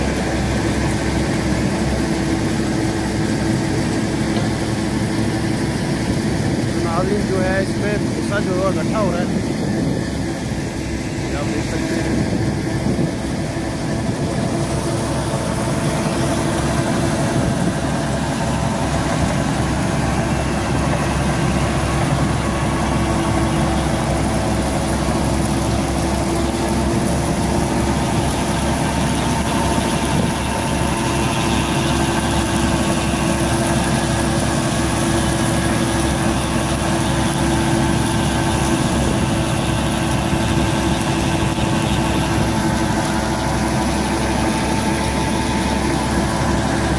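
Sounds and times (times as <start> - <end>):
tractor engine and straw reaper humming: 0.0 - 46.9.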